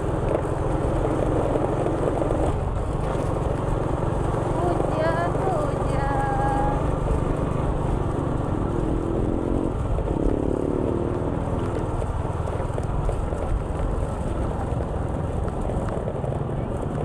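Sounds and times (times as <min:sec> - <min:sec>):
road noise: 0:00.0 - 0:17.0
vehicle engine running: 0:00.0 - 0:17.0.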